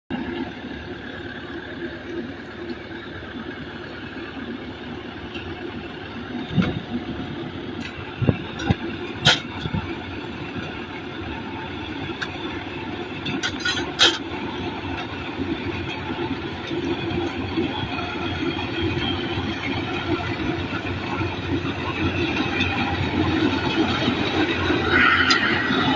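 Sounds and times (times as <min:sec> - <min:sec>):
heavy machinery running: 0:00.2 - 0:25.9.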